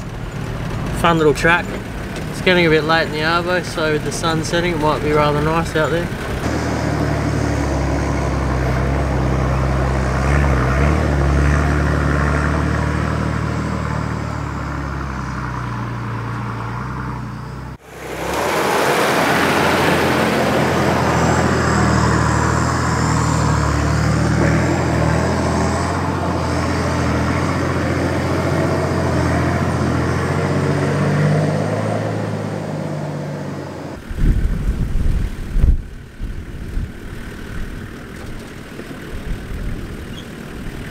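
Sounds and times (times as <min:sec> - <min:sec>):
engine running at low revs: 0:00.0 - 0:40.9.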